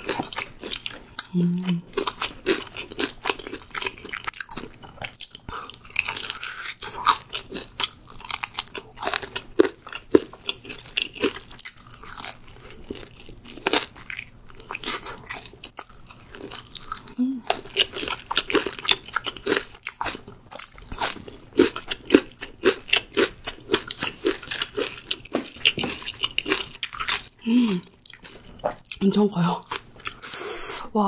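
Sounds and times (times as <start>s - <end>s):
crunching fried chicken: 2.0s - 28.9s.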